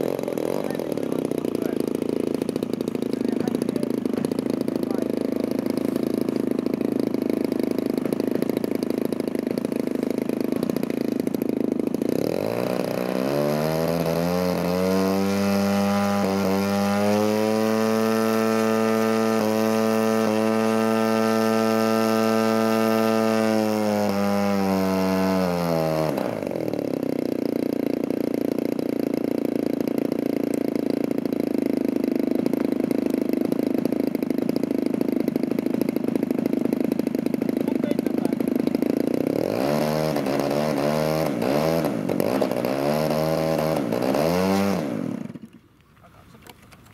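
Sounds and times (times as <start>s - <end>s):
model airplane engine revving: 0.0s - 46.9s.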